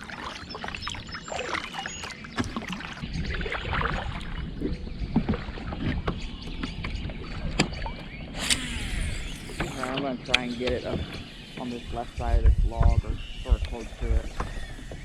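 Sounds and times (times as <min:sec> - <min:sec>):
paddle and water sounds: 0:00.0 - 0:15.0
knocks and clicks against hull: 0:01.5 - 0:08.7, 0:09.5 - 0:15.0.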